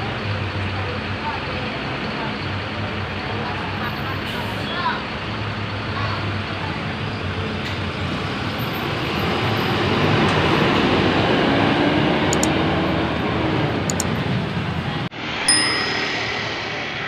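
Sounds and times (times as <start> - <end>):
bus driving past: 0.0 - 17.0.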